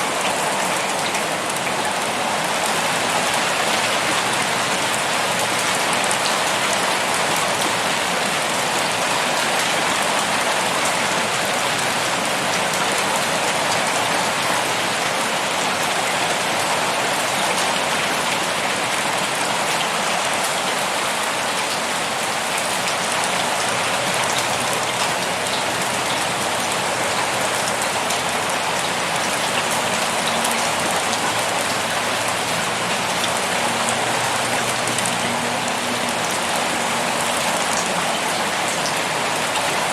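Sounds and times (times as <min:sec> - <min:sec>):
heavy rain on a hard surface: 0:00.0 - 0:39.9.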